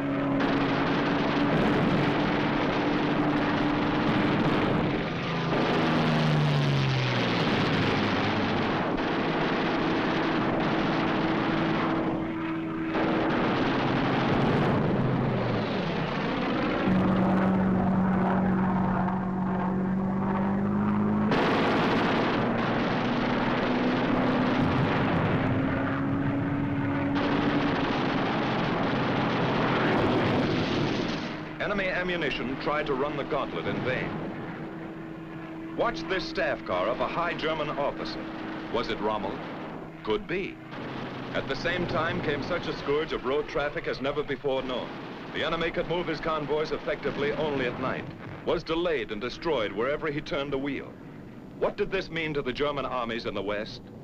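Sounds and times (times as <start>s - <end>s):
propeller aircraft engines droning: 0.0s - 54.0s.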